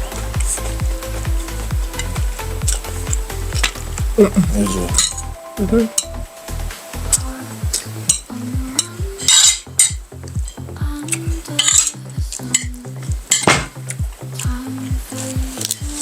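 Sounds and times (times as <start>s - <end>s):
background music with bass beat: 0.0s - 16.0s.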